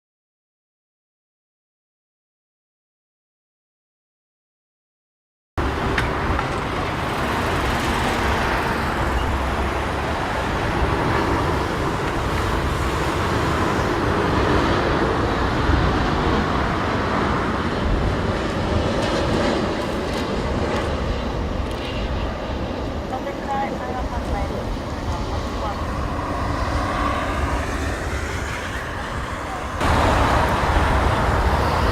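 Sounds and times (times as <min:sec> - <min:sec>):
jet engines roaring: 0:05.6 - 0:31.9
wind buffeting microphone: 0:05.6 - 0:31.9.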